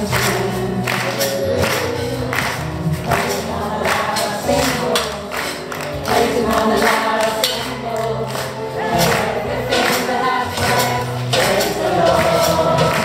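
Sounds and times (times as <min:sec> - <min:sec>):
children singing together: 0:00.0 - 0:13.0
instrumental music with steady beat: 0:00.0 - 0:13.0.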